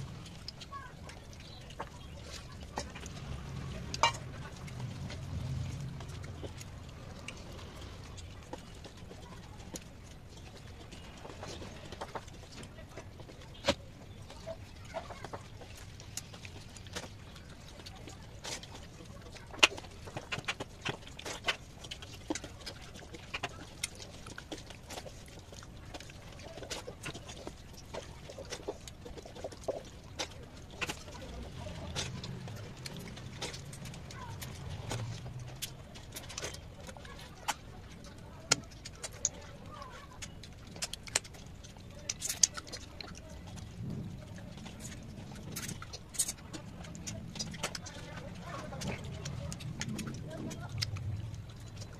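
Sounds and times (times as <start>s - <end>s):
fingers squishing wet food: 0.0s - 51.9s
sharp clicks and smacks: 0.0s - 51.9s.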